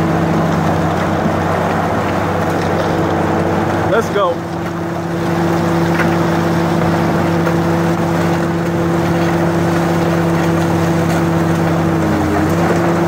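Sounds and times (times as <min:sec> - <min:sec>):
engine running steadily: 0:00.0 - 0:13.0
pressure hose water jet splashing: 0:00.0 - 0:13.0.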